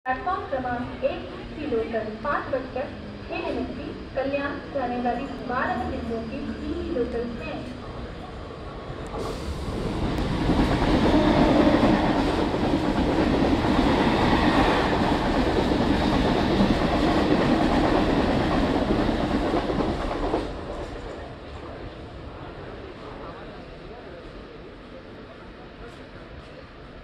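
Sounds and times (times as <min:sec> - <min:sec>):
train running past: 0:00.1 - 0:27.0.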